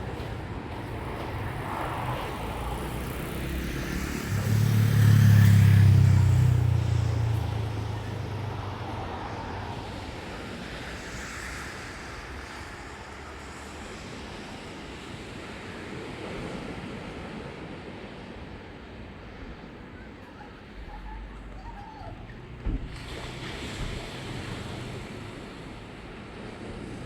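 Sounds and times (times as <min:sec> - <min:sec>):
vehicle engine rumble passing: 0:00.0 - 0:15.2, 0:19.4 - 0:27.0
surf: 0:00.0 - 0:27.0
wind: 0:00.0 - 0:27.0.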